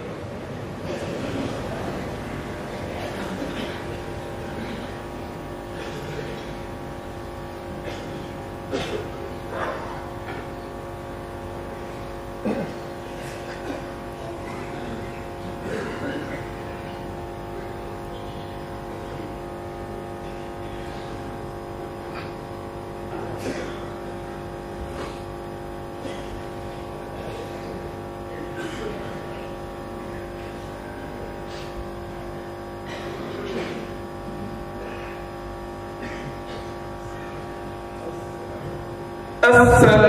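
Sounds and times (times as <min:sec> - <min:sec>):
murmur of crowd voices: 0:00.0 - 0:22.5, 0:23.1 - 0:40.0
steady multi-tone hum: 0:00.0 - 0:40.0.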